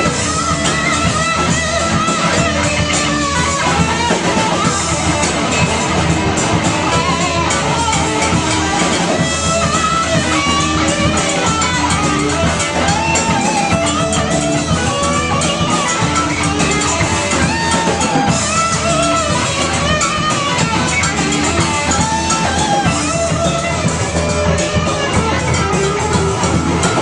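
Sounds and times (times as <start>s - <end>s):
drum kit: 0.0s - 27.0s
electric guitars: 0.0s - 27.0s
pitch-bending melodic line: 0.0s - 27.0s.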